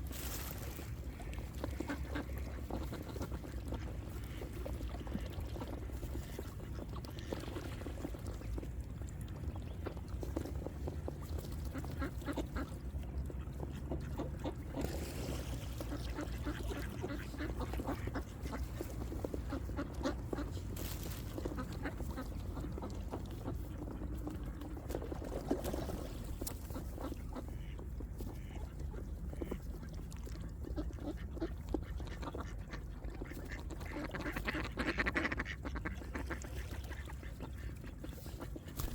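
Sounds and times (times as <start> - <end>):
ducks quacking: 0.3 - 8.1, 11.3 - 38.9.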